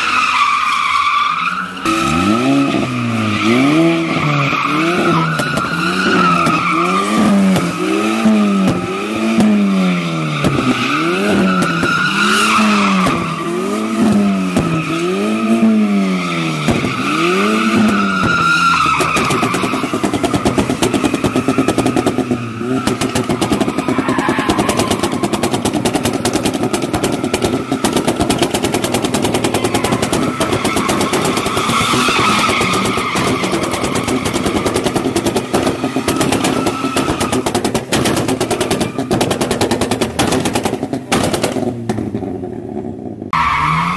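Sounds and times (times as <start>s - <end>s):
tyres squealing: 0.0s - 9.4s, 10.0s - 40.2s
car engine revving: 1.6s - 43.9s.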